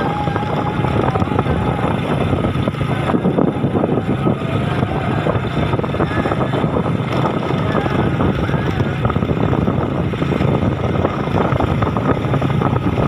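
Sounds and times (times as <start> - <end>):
vehicle engine running: 0.0 - 13.0
wind noise on microphone: 0.0 - 13.0.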